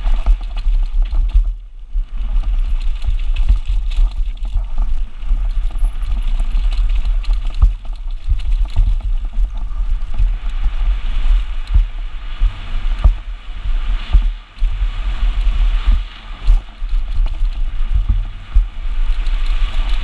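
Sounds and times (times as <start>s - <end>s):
tyres rumbling over dirt trail: 0.0s - 20.0s
wind buffeting microphone: 0.0s - 20.0s.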